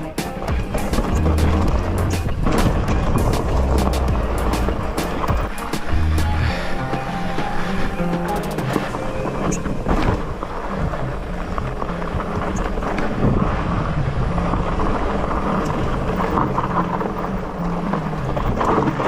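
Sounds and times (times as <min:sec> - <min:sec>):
tyres rumbling over dirt: 0:00.0 - 0:19.0
wind buffeting microphone: 0:00.0 - 0:19.0.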